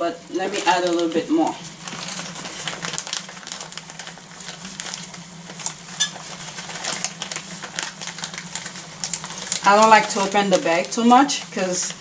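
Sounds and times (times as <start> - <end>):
steady low hum: 0.0 - 12.0
plastic bag crinkling: 0.3 - 12.0.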